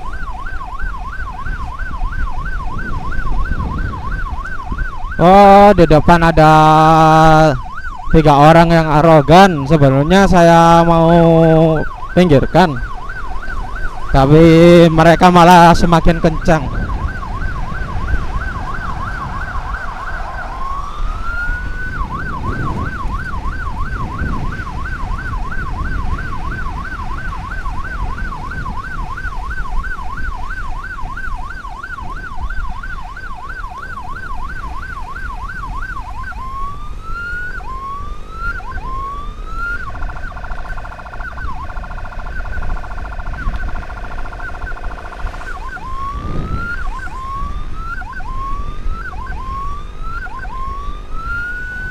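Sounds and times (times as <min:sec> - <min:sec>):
electronic emergency siren: 0:00.0 - 0:51.9
road and wind rumble: 0:00.0 - 0:51.9.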